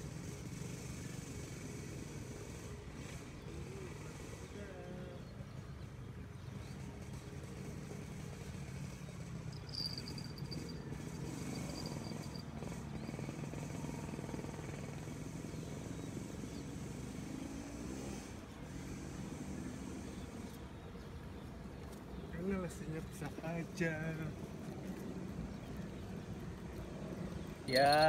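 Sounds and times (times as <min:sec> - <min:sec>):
distant engines humming: 0:00.0 - 0:28.0.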